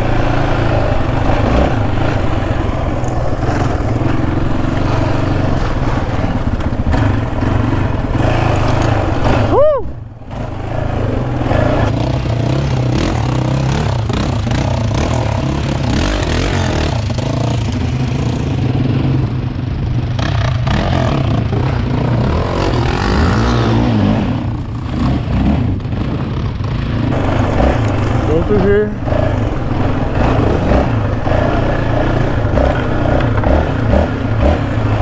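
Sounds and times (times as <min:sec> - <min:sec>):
quad engine revving: 0:00.0 - 0:19.3, 0:20.0 - 0:35.0.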